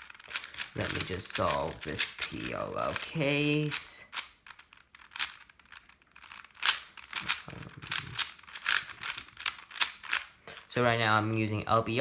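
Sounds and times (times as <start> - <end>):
plastic puzzle cube clicking: 0.0 - 11.5.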